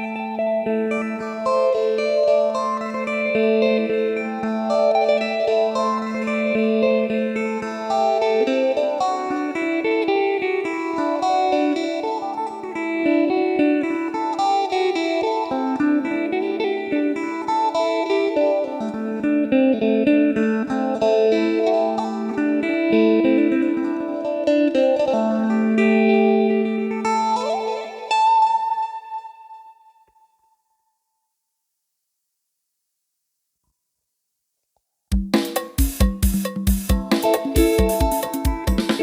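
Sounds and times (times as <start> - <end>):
amplified plucked lute melody: 0.0 - 30.0, 35.2 - 39.0.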